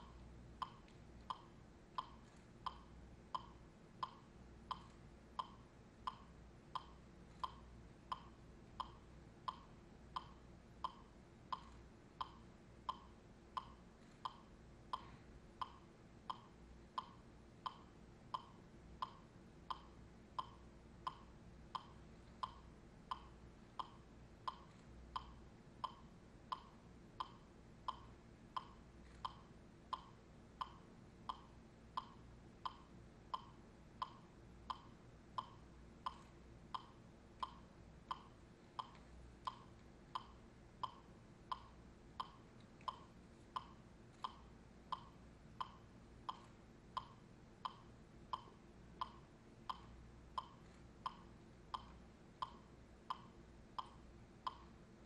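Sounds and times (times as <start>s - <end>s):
faint low hum: 0.0s - 55.0s
steady click beat: 0.0s - 55.0s.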